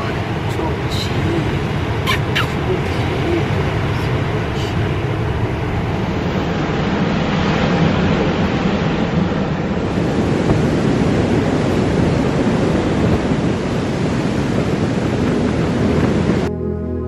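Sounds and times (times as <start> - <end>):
rough sea surf breaking: 0.0 - 16.5.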